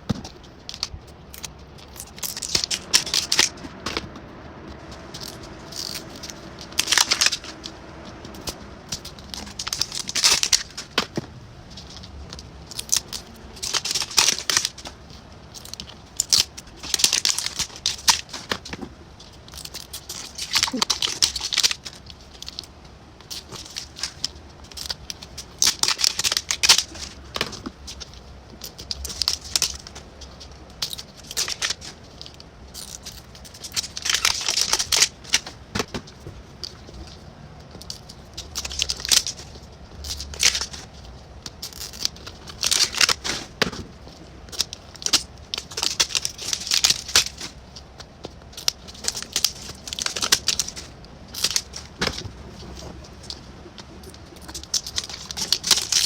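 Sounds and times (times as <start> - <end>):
plastic wrappers crinkling and tearing: 0.2 - 56.0
small plastic pieces clicking: 5.1 - 35.9, 36.6 - 40.8, 41.4 - 52.3, 54.0 - 56.0.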